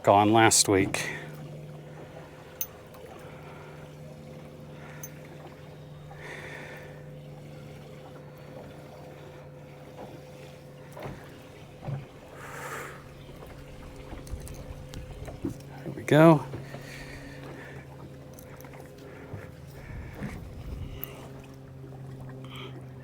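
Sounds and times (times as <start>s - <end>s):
low boat hum: 0.0s - 23.0s.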